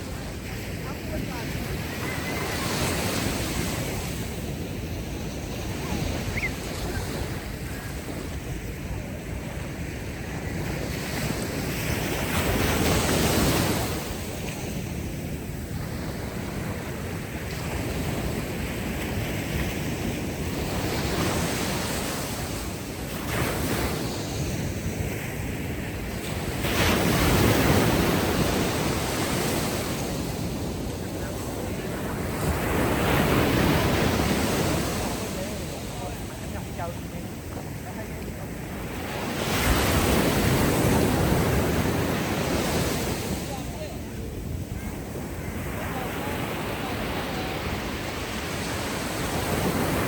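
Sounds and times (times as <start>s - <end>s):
ocean waves breaking on beach: 0.0s - 50.0s
steady wind: 0.0s - 50.0s.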